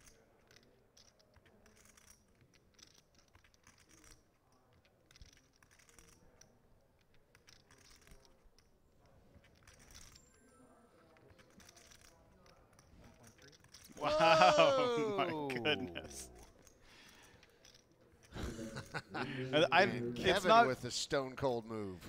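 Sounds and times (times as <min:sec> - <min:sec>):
poker chips clicking: 0:00.0 - 0:10.3, 0:11.0 - 0:18.4.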